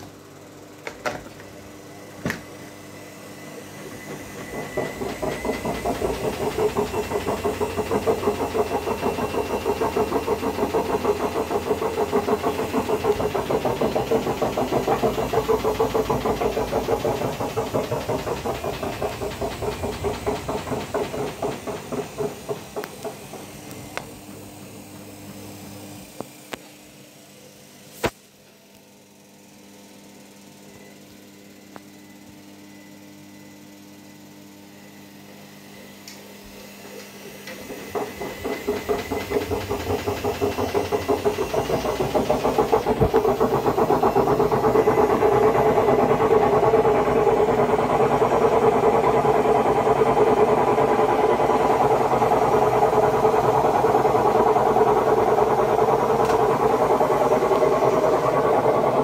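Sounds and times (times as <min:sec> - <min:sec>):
washing machine drum spinning: 0:00.7 - 0:26.5, 0:36.8 - 0:59.0.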